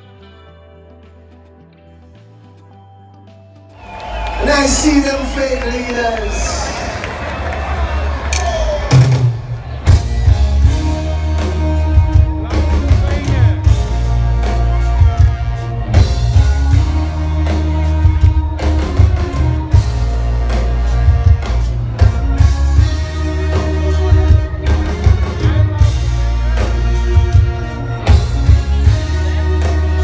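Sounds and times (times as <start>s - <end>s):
band music: 0.0s - 30.0s.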